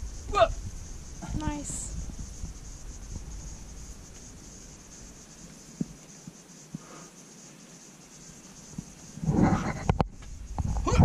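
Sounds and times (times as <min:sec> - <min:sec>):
high insect hiss: 0:00.0 - 0:11.0.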